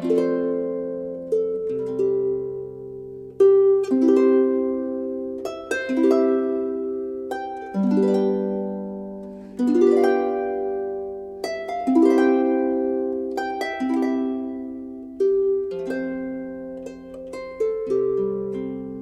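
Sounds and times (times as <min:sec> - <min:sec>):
harp playing rolled chords: 0:00.0 - 0:19.0.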